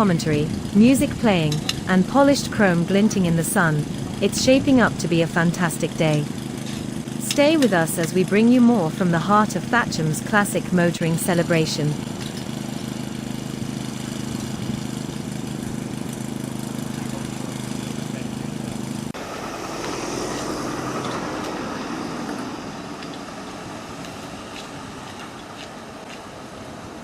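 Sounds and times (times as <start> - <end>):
outdoor noise: 0.0 - 27.0
vehicle engine idling: 0.0 - 27.0.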